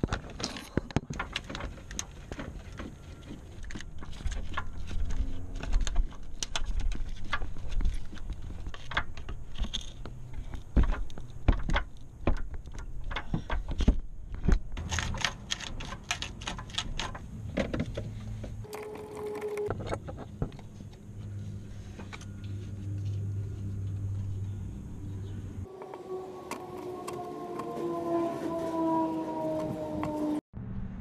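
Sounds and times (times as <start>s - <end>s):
low steady hum: 0.4s - 28.6s.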